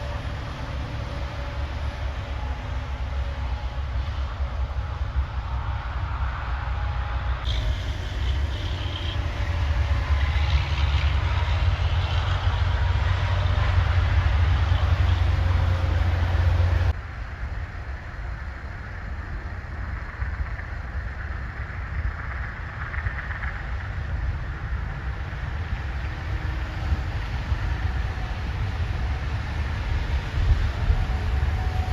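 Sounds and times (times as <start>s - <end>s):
heavy truck engines rumbling: 0.0s - 17.0s, 17.8s - 31.9s
road noise: 0.0s - 31.9s.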